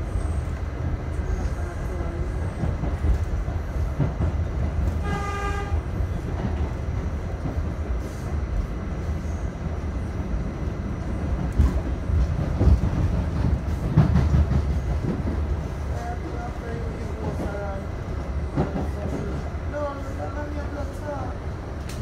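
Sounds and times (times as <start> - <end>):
subway car rumble: 0.0 - 22.0.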